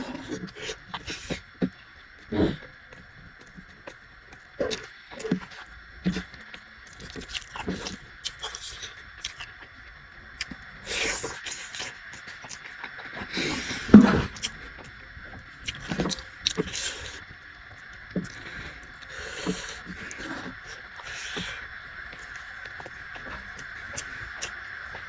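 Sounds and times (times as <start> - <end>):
person chewing food: 0.0 - 9.8, 10.4 - 15.0, 15.6 - 25.0
noisy eating bursts: 0.0 - 25.0.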